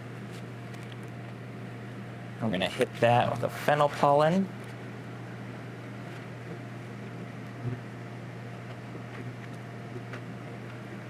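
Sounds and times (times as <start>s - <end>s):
kitchen machinery humming: 0.0s - 11.0s.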